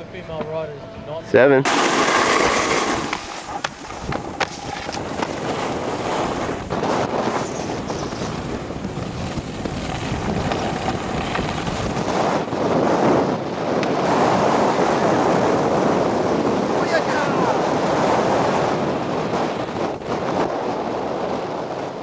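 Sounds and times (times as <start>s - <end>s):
wind buffeting microphone: 0.0s - 22.0s
snowboard sliding on snow: 1.7s - 22.0s.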